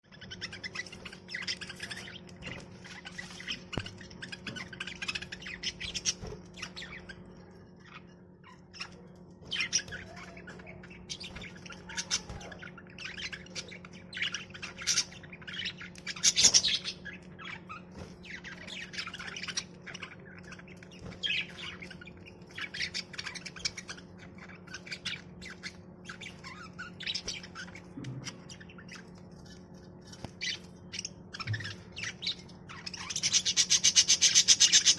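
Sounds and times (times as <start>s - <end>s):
budgerigars chattering and chirping: 0.1s - 34.9s.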